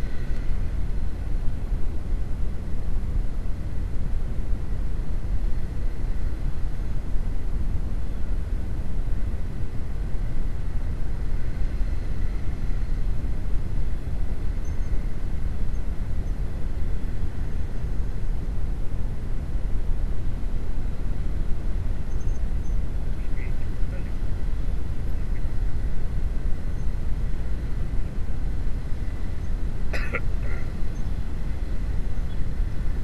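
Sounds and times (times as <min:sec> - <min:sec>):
traffic at low speed: 0:00.0 - 0:33.0.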